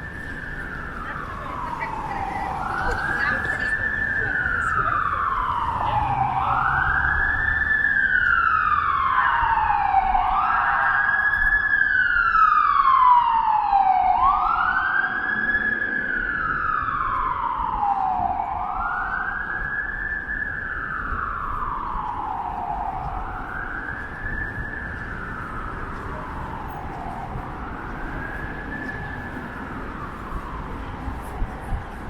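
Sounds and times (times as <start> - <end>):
emergency siren wailing: 0.0 - 32.0.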